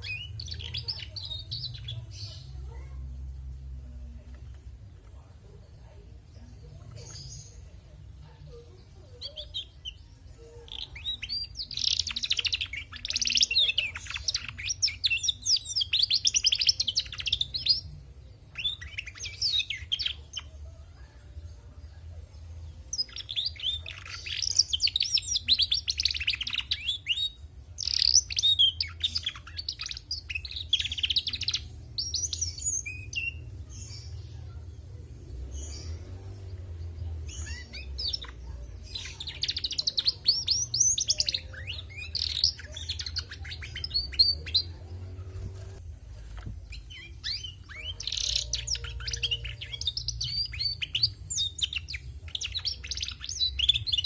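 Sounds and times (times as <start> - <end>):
canary singing: 0.0 - 4.6, 6.3 - 21.6, 22.2 - 54.0.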